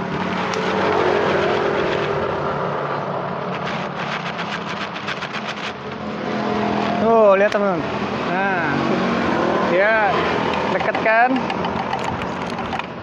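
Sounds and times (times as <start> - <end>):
traffic passing on road: 0.0 - 13.0.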